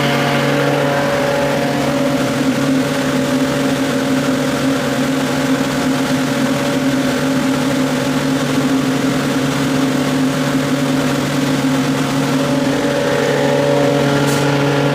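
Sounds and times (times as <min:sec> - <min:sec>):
air compressor humming: 0:00.0 - 0:14.9.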